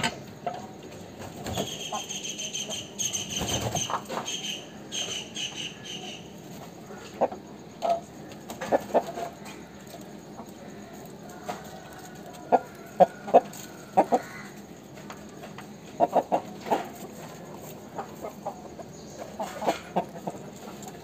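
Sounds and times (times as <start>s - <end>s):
rooster clucking: 1.3s - 21.0s.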